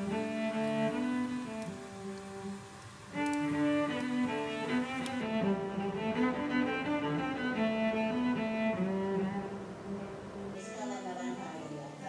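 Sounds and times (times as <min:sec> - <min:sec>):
slow held background music: 0:00.0 - 0:11.1.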